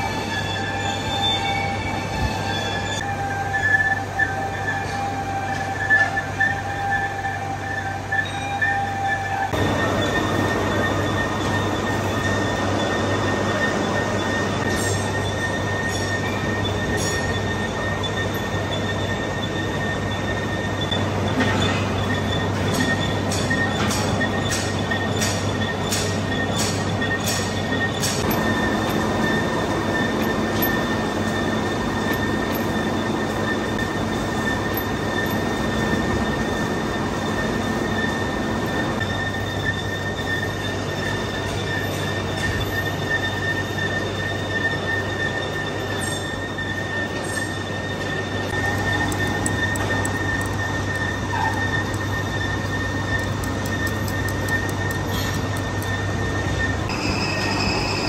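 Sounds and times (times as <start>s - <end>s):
high-pitched metallic squeal: 0.0s - 58.0s
lathe machining metal: 0.0s - 58.0s.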